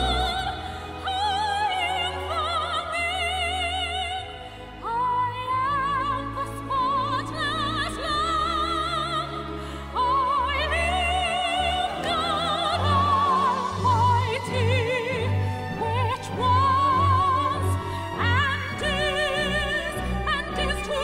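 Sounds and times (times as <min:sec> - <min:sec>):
woman singing with vibrato: 0:00.0 - 0:21.0.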